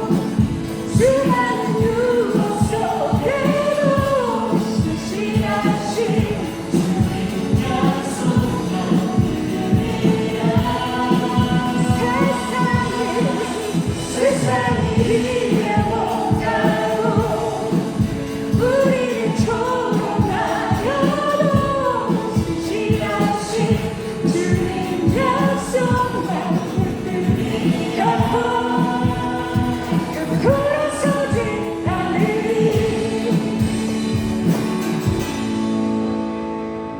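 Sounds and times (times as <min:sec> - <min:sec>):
group singing a worship song: 0:00.0 - 0:35.5
band playing a steady beat: 0:00.0 - 0:36.9.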